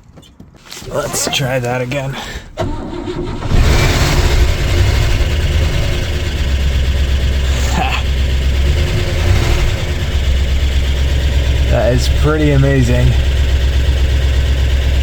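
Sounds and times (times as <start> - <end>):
car engine running: 0.6 - 15.0.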